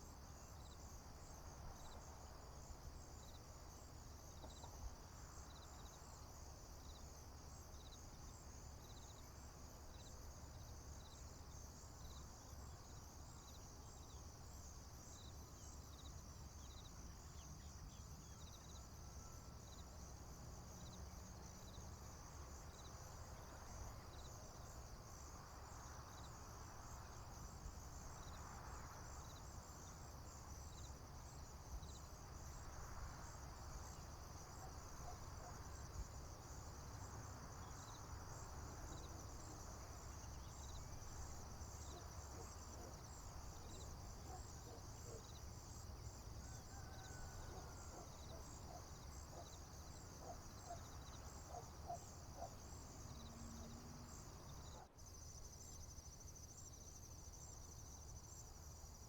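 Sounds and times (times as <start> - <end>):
insects trilling: 9.9 - 59.0.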